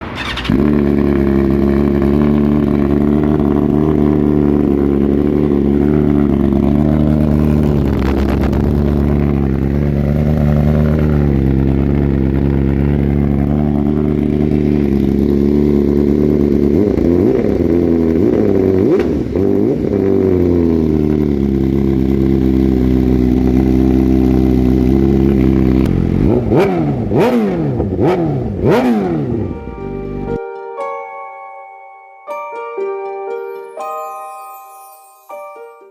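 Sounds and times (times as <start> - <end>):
motorcycle engine idling: 0.0 - 30.3.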